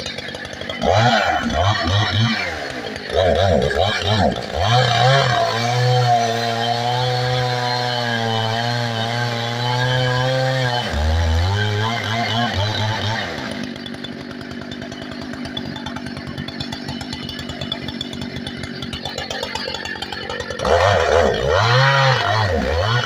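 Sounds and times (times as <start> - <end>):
chainsaw revving and idling: 0.0 - 23.0.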